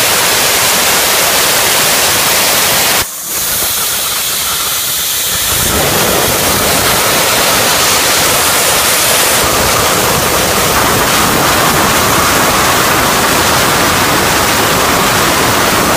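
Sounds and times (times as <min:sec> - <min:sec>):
plasma torch hissing: 0:00.0 - 0:15.9.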